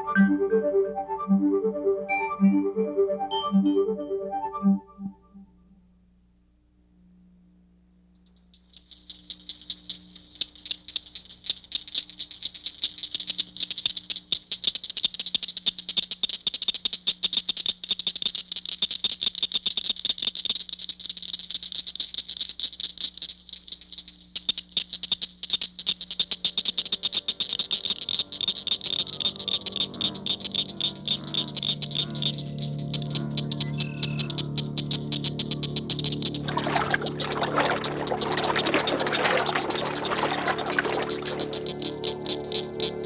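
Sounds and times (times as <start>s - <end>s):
chorus of frogs or insects: 8.2s - 43.0s.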